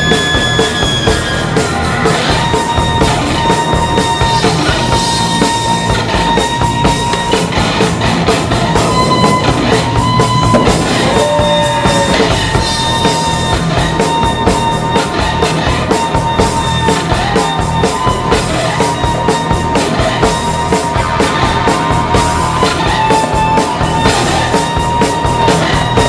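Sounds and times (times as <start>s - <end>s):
rock music with drums: 0.0s - 26.0s.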